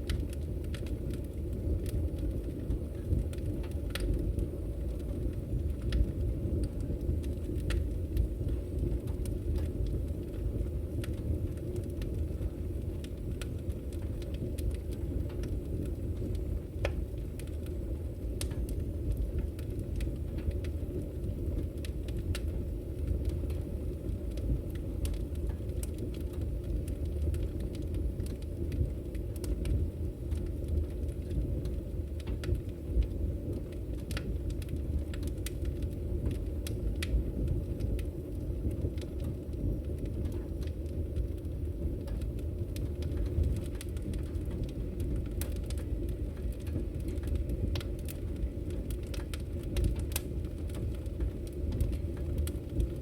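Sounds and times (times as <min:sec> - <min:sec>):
fire crackling and popping: 0:00.0 - 0:53.0
fire flames rumbling: 0:00.0 - 0:53.0.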